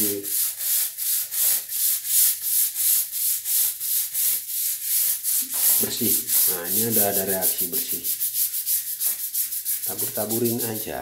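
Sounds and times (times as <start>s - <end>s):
scrub brush scrubbing wet tiles: 0.0s - 11.0s.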